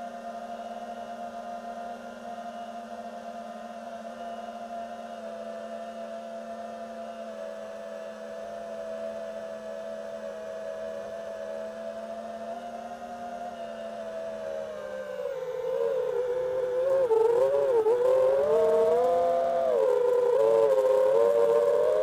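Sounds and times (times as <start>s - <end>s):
quadcopter motors whining: 0.5s - 22.0s.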